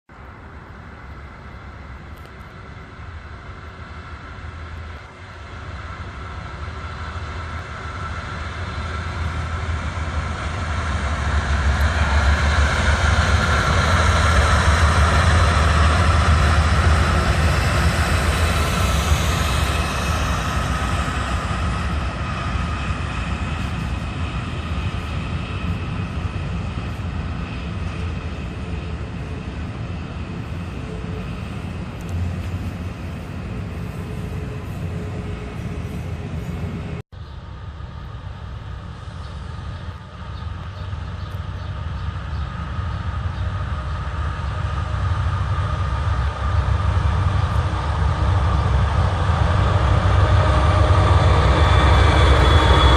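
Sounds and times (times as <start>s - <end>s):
diesel locomotive engine drone: 0.1s - 52.9s.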